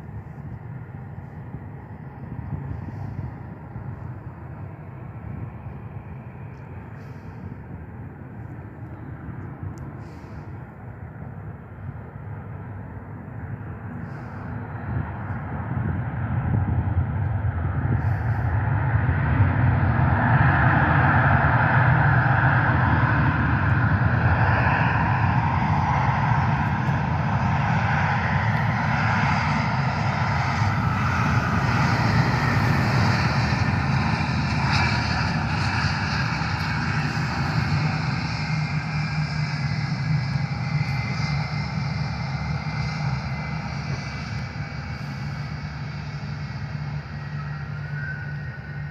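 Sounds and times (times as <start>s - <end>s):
airplane engine rushing: 0.0s - 48.9s.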